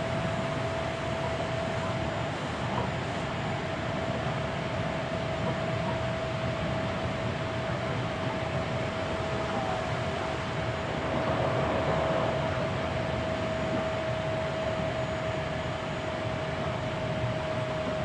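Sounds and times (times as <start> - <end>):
steady high hum: 0.0 - 18.0
train wheels rumbling on rail: 0.0 - 18.0.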